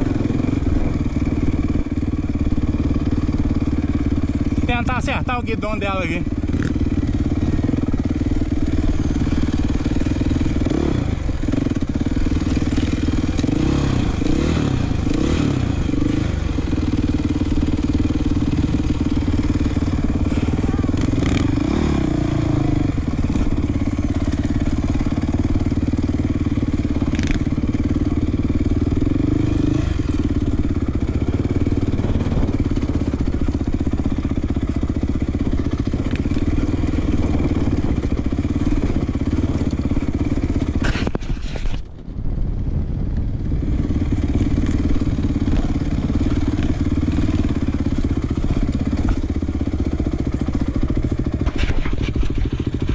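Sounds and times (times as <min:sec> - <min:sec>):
motorbike engines revving: 0:00.0 - 0:41.8, 0:42.4 - 0:52.9
dirt bike engine running: 0:00.0 - 0:52.9.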